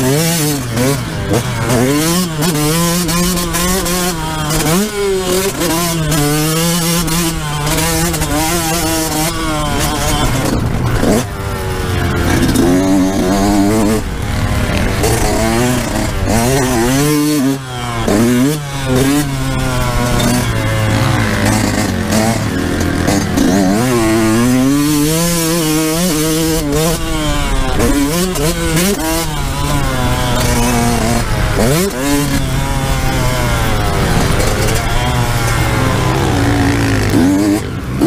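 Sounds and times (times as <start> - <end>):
two-stroke motorcycle engine revving: 0.0 - 38.0.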